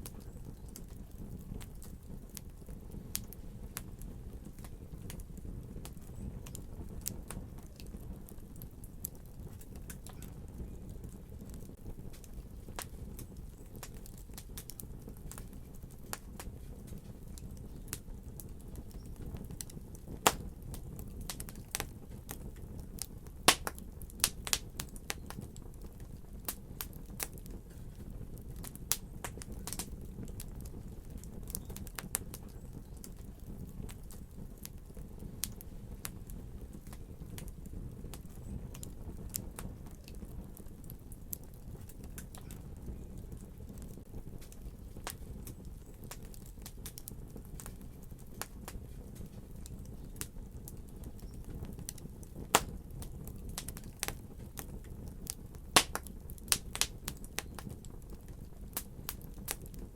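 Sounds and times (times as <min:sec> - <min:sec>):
low rumble of fire: 0:00.0 - 0:59.9
wood fire crackling and popping: 0:00.0 - 0:59.9.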